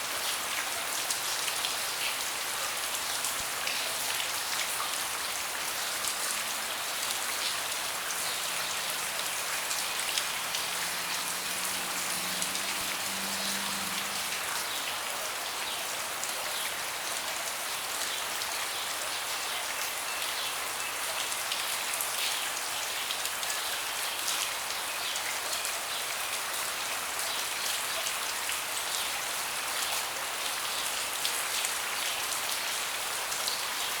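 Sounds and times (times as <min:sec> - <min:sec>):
rain falling on a deck: 0:00.0 - 0:34.0.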